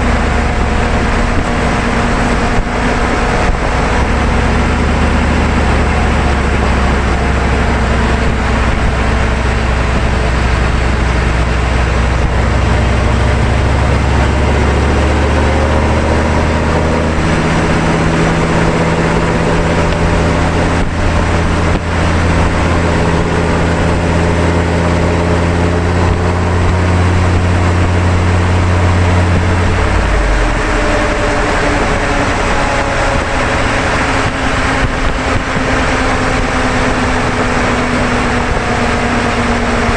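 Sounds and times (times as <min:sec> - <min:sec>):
engine drone: 0:00.0 - 0:39.9
tyre and wind noise: 0:00.0 - 0:39.9.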